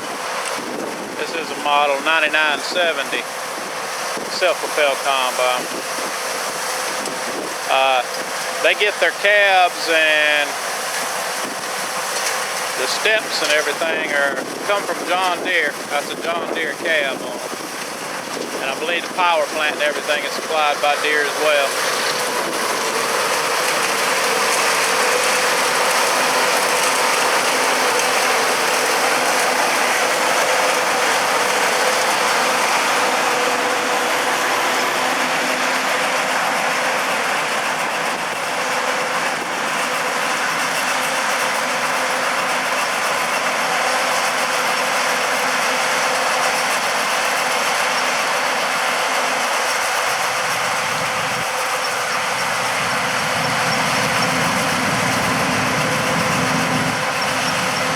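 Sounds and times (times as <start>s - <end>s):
combine harvester clattering: 0.0s - 57.9s.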